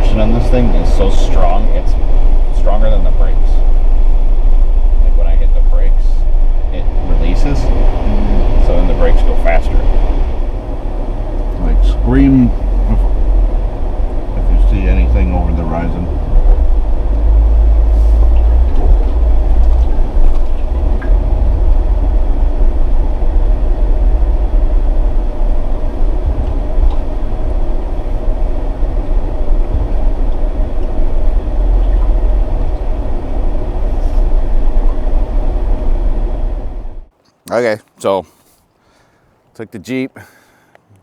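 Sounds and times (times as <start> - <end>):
vehicle driving rumble: 0.0 - 41.0.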